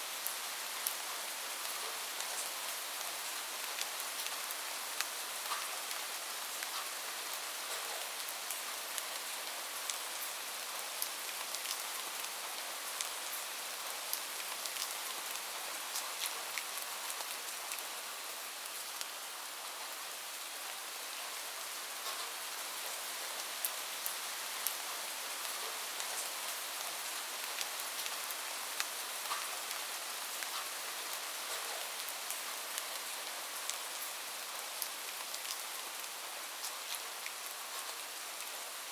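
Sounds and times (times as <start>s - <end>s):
raindrops ticking on a surface: 0.2s - 18.0s, 18.6s - 19.7s, 21.3s - 38.6s.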